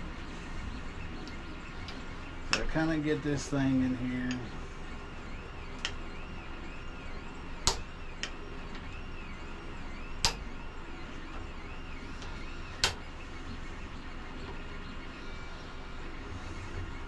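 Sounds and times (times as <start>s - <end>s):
steady shop hum: 0.0s - 17.0s.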